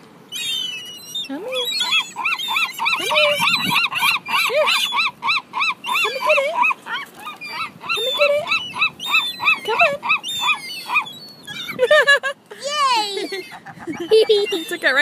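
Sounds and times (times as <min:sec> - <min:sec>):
juvenile gull begging calls: 0:00.3 - 0:11.8, 0:12.9 - 0:15.0.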